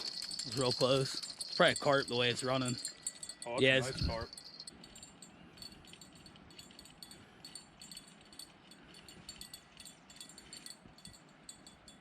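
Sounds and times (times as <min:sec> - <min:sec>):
small bell jingling: 0:00.0 - 0:12.0.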